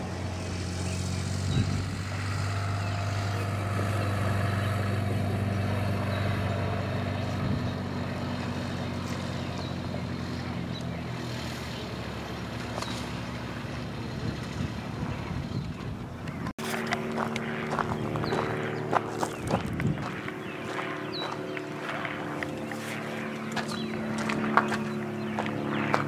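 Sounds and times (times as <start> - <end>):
low engine hum: 0.0 - 26.0.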